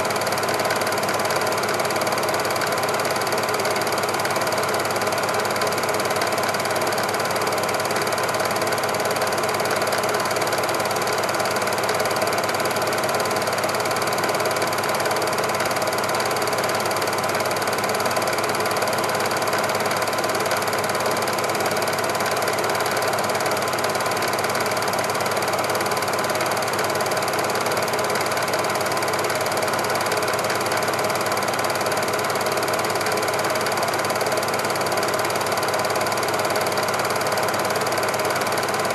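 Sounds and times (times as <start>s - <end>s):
film projector whirring and clattering: 0.0s - 38.9s.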